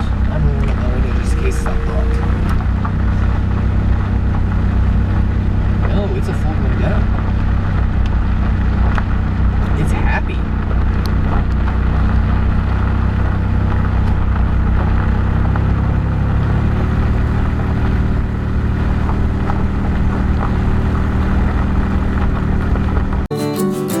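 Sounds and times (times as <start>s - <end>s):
car engine running: 0.0s - 23.3s
road noise: 0.0s - 23.4s.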